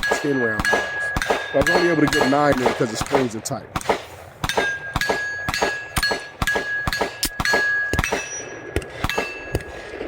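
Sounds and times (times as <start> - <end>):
steel target ringing: 0.0 - 3.3, 4.4 - 9.6
rapid gunfire: 0.0 - 8.3.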